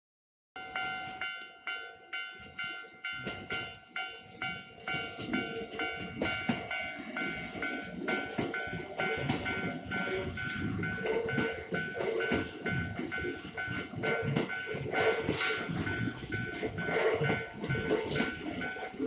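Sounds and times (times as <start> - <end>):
approaching train rumble: 0.6 - 19.0
level crossing bell ringing: 0.6 - 19.0.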